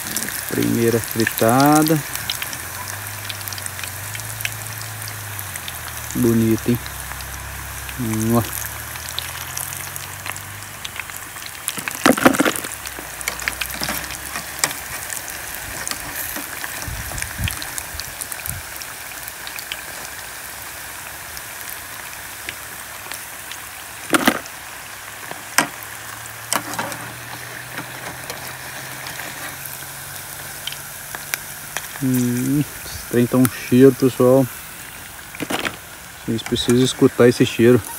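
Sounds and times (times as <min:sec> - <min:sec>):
fish deep-frying in oil: 0:00.0 - 0:37.9.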